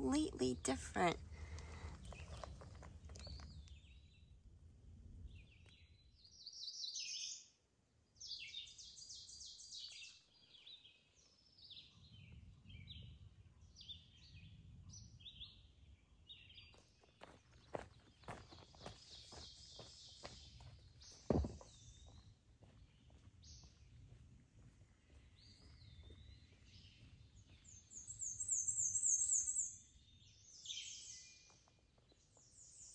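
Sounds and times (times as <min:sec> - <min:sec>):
songbirds singing: 0:00.1 - 0:04.4, 0:05.2 - 0:32.9.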